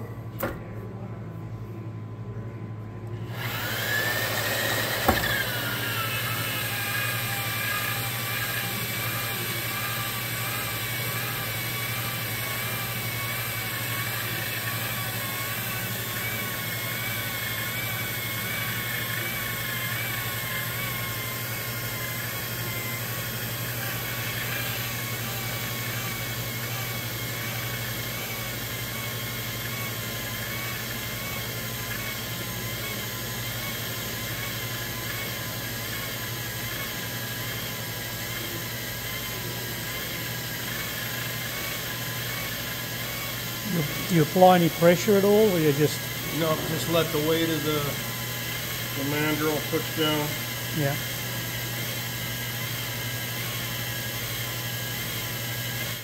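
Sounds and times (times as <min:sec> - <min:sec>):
drill press motor whine: 0:03.0 - 0:56.0
mandrel grinding metal: 0:03.4 - 0:55.2.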